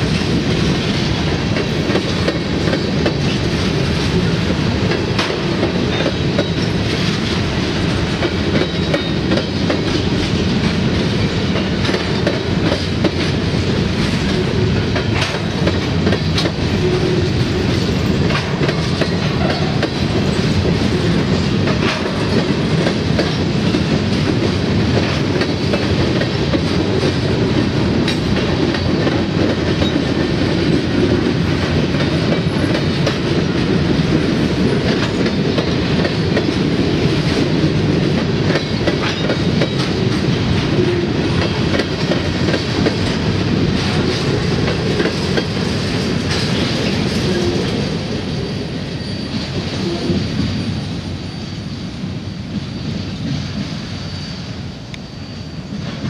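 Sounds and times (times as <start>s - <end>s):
train wheels rumbling on rails: 0.0s - 56.0s
wheels clicking over rail joints: 0.1s - 47.8s.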